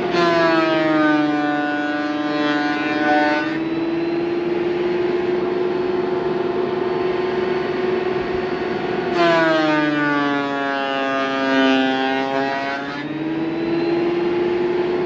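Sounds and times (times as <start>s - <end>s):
planer cutting board: 0.0s - 6.5s, 7.4s - 15.0s
electric wood planer running: 0.0s - 15.0s.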